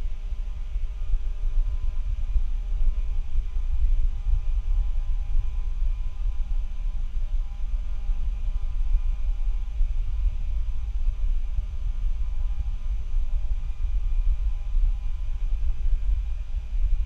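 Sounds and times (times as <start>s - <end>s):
microphone fluttering low rumble: 0.0s - 17.0s
steady hum: 0.0s - 17.0s.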